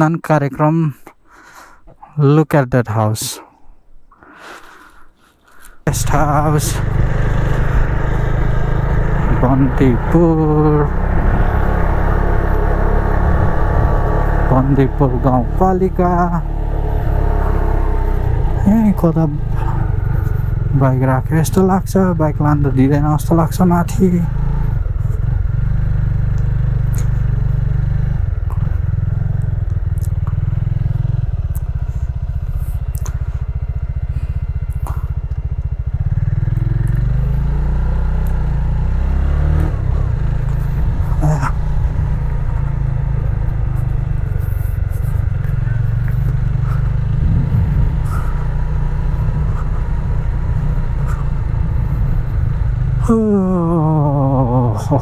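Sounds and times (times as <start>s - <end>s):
motorcycle engine running: 5.8s - 55.0s.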